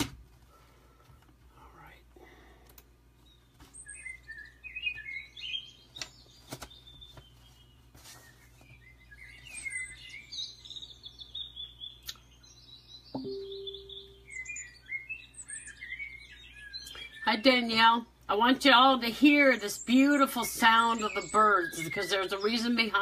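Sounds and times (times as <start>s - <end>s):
songbirds chirping and trilling: 0.5s - 23.0s.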